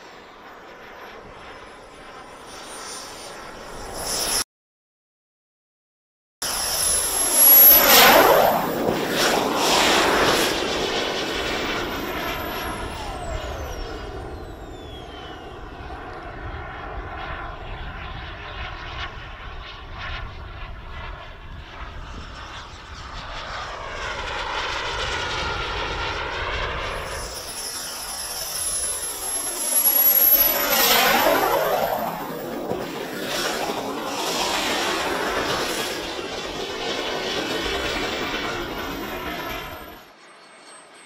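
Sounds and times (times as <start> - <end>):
jet turbine whine passing: 0.0 - 4.5, 6.4 - 41.0.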